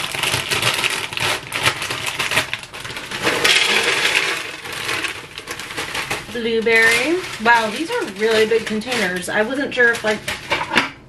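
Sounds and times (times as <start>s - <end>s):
cereal pouring into plastic: 0.0s - 10.5s
plastic bag crinkling: 0.0s - 10.8s.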